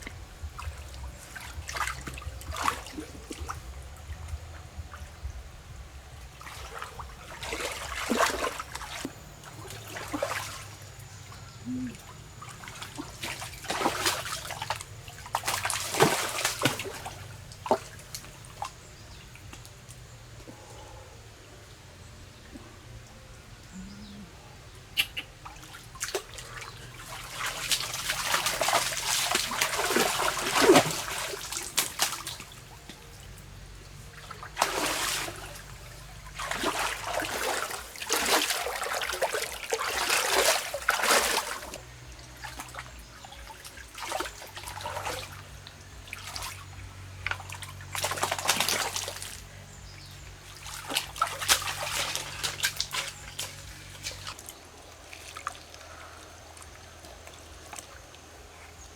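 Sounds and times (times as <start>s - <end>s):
water splashing and trickling: 0.0s - 58.9s.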